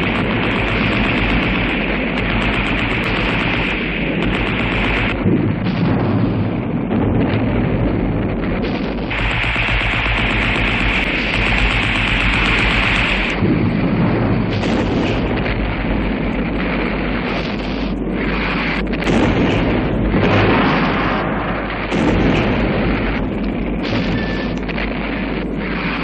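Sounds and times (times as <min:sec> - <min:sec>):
artillery fire: 0:00.0 - 0:26.0
shell explosions: 0:00.0 - 0:26.0.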